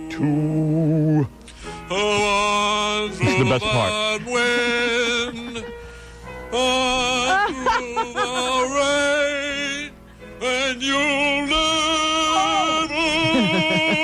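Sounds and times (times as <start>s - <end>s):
man singing operatically: 0.0s - 5.8s, 6.4s - 14.0s.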